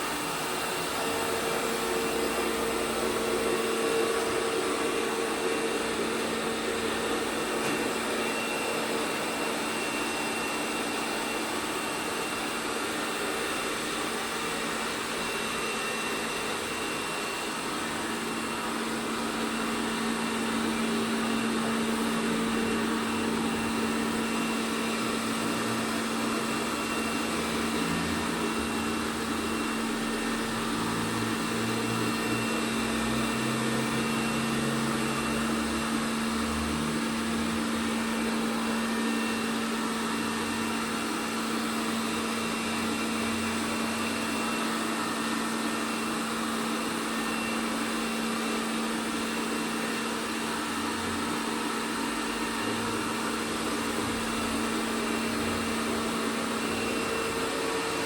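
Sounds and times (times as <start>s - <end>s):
robot vacuum running: 0.0s - 58.0s.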